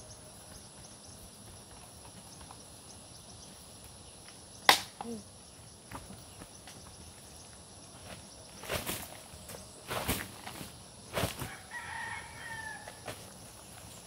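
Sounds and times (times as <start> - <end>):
crickets droning: 0.0 - 14.0
quiet rural ambience: 0.0 - 14.0.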